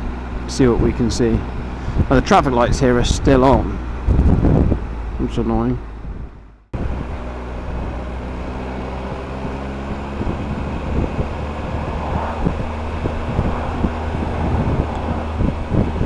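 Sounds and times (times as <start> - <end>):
motorcycle engine idling: 0.0 - 16.0
wind noise on microphone: 0.8 - 16.0.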